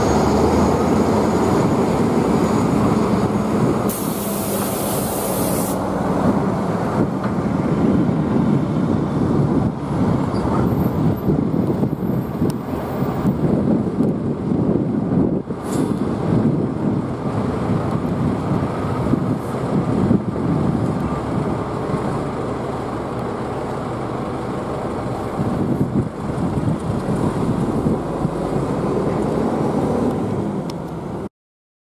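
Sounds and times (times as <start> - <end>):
diesel locomotive rumbling: 0.0 - 31.3.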